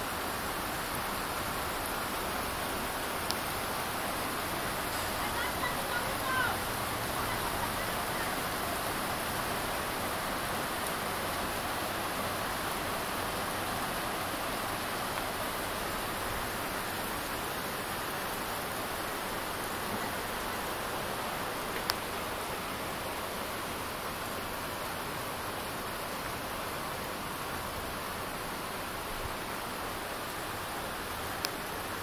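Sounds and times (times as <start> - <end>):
steady rain on leaves and pavement: 0.0 - 32.0.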